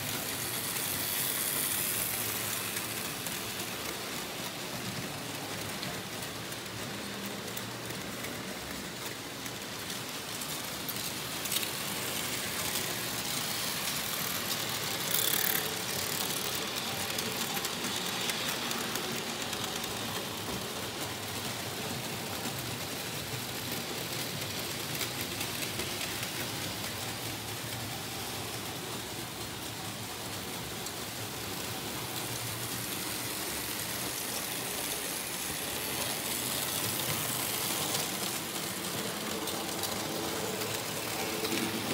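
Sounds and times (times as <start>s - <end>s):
model train wheels rattling on track: 0.0s - 41.9s.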